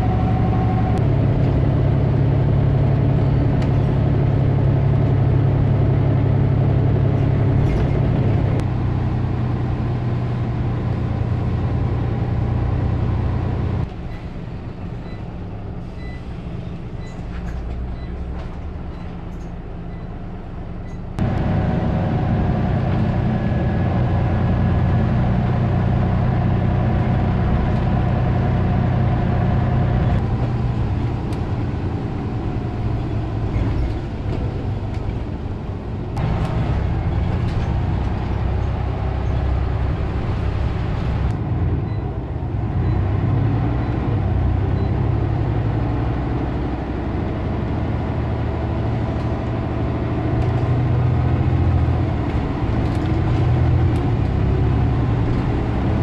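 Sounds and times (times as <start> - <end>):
bus diesel engine drone: 0.0 - 56.0
road noise: 0.0 - 56.0.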